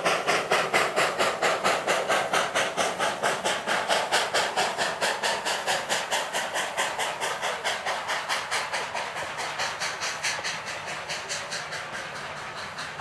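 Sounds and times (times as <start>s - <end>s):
steam hissing: 0.0s - 13.0s
steam locomotive exhaust beats: 0.0s - 13.0s.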